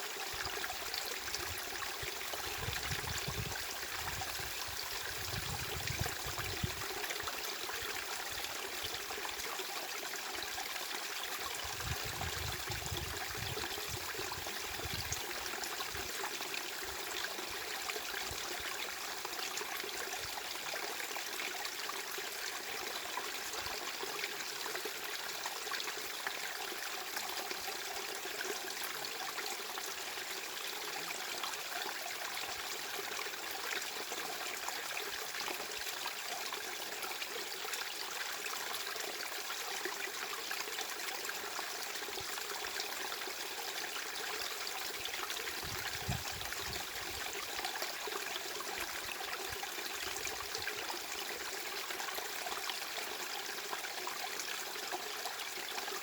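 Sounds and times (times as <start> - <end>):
stream trickling and splashing: 0.0 - 56.0.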